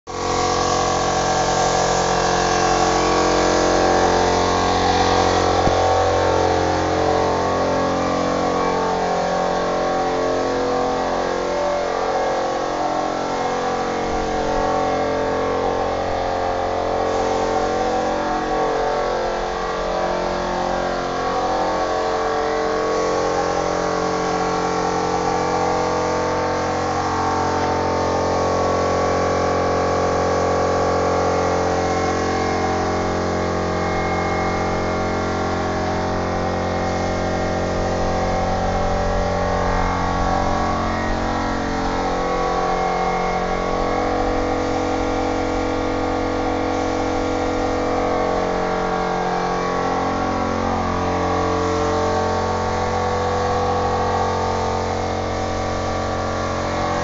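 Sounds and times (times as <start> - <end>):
machine humming: 0.1 - 57.0.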